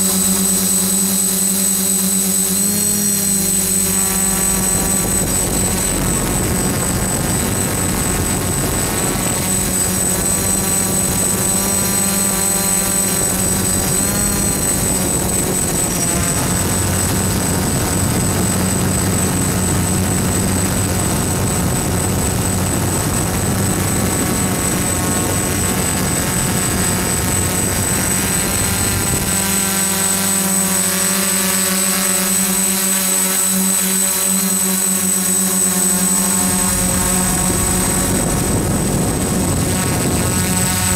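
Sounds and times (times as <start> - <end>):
drone motors buzzing: 0.0 - 40.9.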